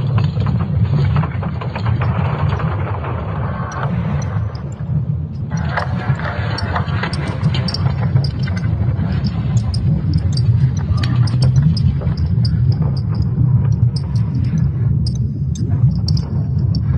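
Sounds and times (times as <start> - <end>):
creaks and crackles: 0.0 - 16.9
steady deep rumble: 0.0 - 16.9.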